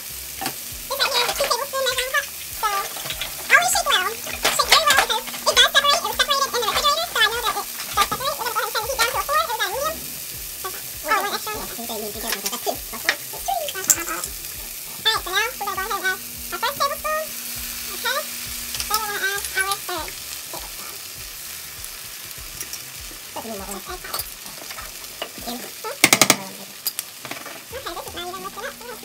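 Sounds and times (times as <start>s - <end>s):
vegetables sizzling in a frying pan: 0.0s - 29.0s.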